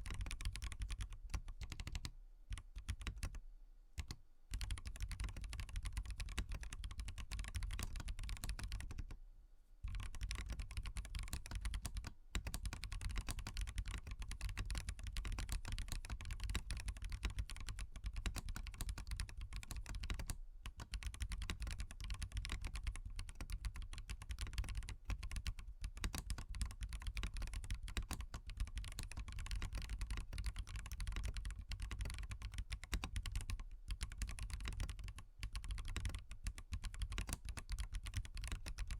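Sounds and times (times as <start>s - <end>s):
mechanical keyboard typing: 0.0s - 3.4s, 4.0s - 9.2s, 9.9s - 38.9s.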